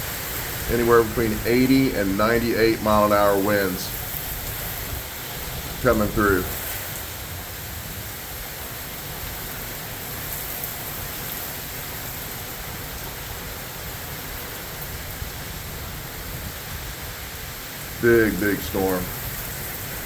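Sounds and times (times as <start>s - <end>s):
heavy rain pouring: 0.0s - 20.0s
strong wind: 0.0s - 20.0s.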